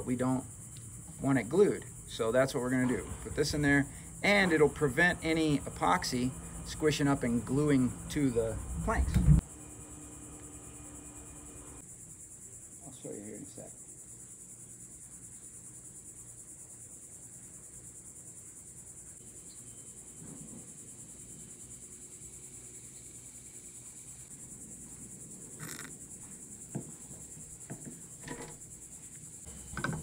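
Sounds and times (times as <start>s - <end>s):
insect chorus trilling: 0.0s - 30.0s.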